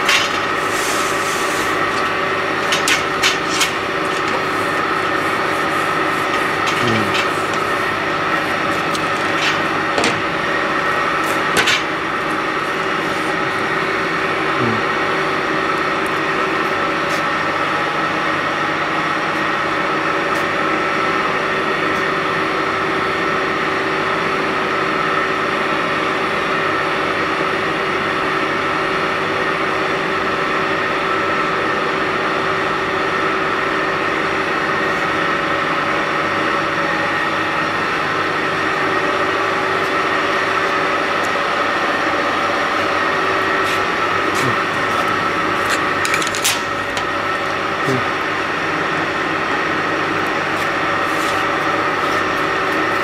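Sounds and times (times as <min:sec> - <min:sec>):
laser machine mechanical hum: 0:00.0 - 0:25.0, 0:30.4 - 0:53.0.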